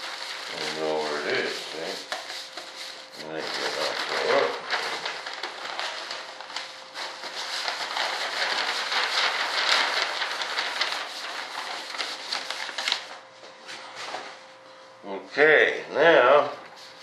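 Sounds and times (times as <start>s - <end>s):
rolled paper rustling and crinkling: 0.0s - 14.6s.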